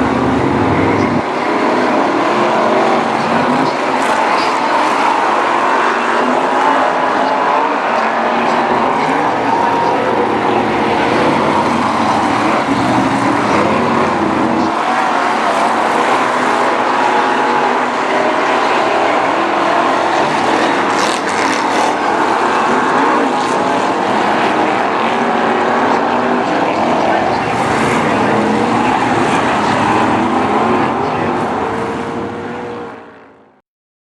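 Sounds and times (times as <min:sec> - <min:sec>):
stock car engines racing: 0:00.0 - 0:33.6.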